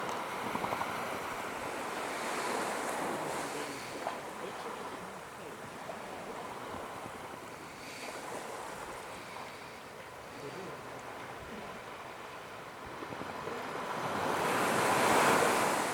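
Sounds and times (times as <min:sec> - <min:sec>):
ocean surf on shore: 0:00.0 - 0:15.9.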